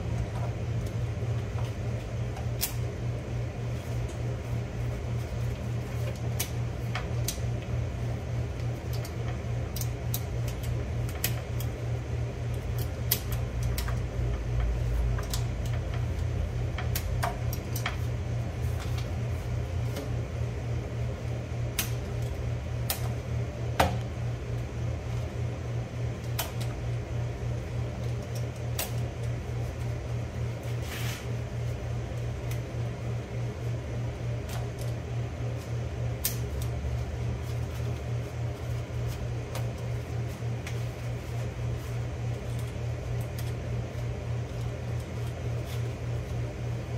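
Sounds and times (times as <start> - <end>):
fan humming: 0.0 - 46.9.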